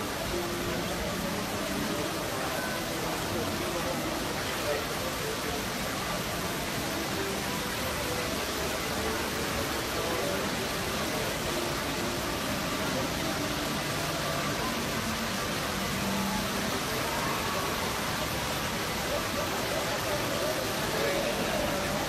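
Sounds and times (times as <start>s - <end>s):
faint distant crowd voices: 0.0s - 22.0s
shopping mall ambience hiss: 0.0s - 22.0s.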